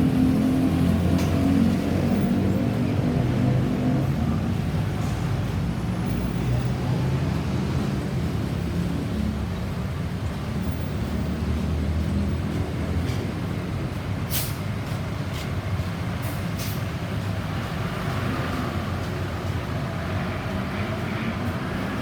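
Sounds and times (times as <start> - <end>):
large vehicle engine rumbling: 0.0 - 22.0.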